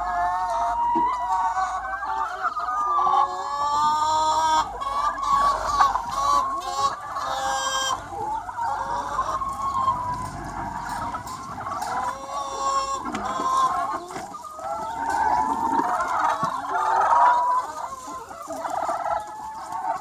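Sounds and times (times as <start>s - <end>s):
hens clucking and calling: 0.0s - 20.0s.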